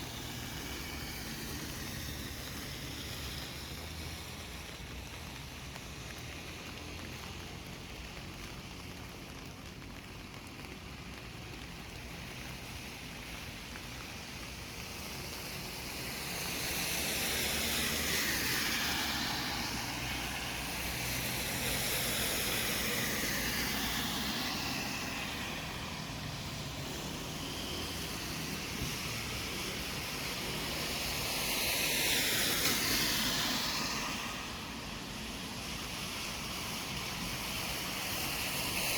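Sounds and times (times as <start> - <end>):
distant traffic hum: 0.0 - 38.9
vehicles passing: 0.0 - 38.9.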